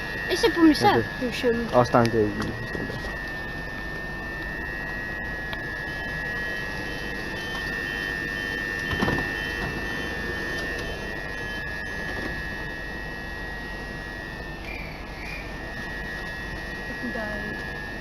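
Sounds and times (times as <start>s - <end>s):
faint beeping: 0.0s - 18.0s
train equipment whine and hum: 0.0s - 18.0s.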